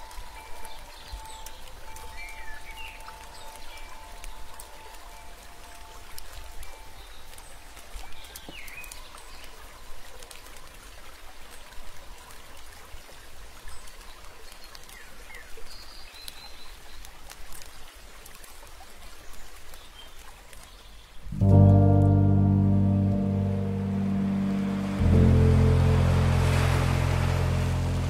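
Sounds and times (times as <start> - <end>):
trickling water: 0.0 - 28.0.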